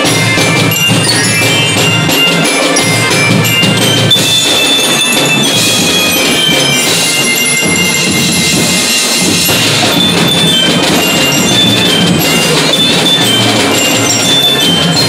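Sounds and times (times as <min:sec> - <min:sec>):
cymbal: 0:00.0 - 0:15.0
melodicas playing: 0:00.0 - 0:15.0
ringing glockenspiel: 0:00.0 - 0:15.0
snare and bass drums: 0:00.0 - 0:15.0.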